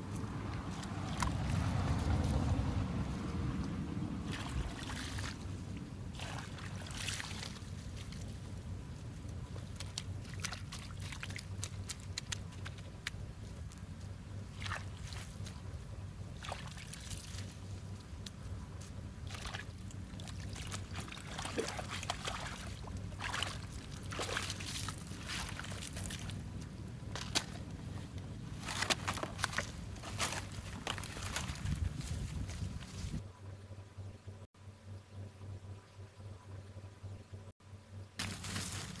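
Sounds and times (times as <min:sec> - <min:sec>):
steady low hum: 0:00.0 - 0:39.0
hands squelching through wet mud: 0:00.1 - 0:33.2.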